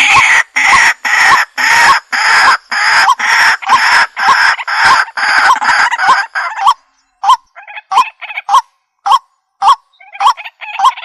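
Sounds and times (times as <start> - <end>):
bird harsh repeated call: 0.0 - 11.0.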